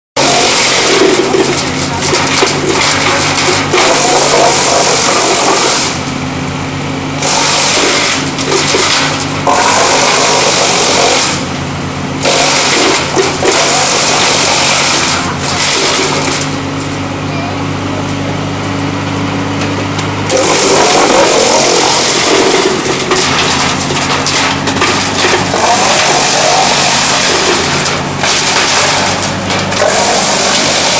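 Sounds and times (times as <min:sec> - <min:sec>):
diesel engine hum: 0:00.2 - 0:30.9
wood chipper chipping logs: 0:00.2 - 0:30.9.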